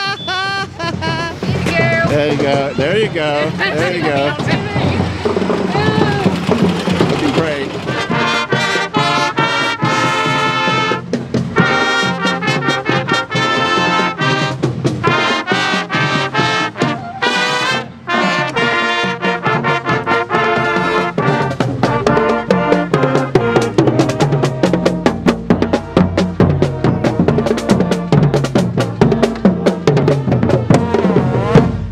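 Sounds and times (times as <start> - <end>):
drums beating: 0.0 - 31.9
marching band brass playing: 0.0 - 31.9.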